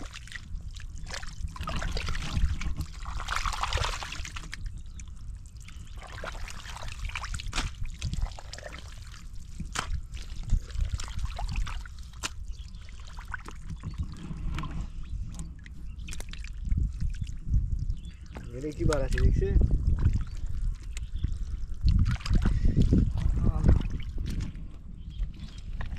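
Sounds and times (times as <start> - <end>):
hands squelching through mud: 0.0 - 14.8, 15.4 - 17.4, 18.6 - 24.6.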